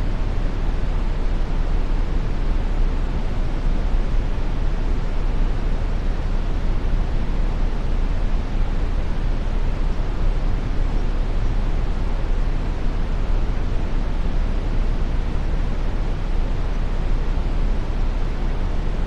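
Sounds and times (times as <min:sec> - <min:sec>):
brown noise hiss: 0:00.0 - 0:19.0.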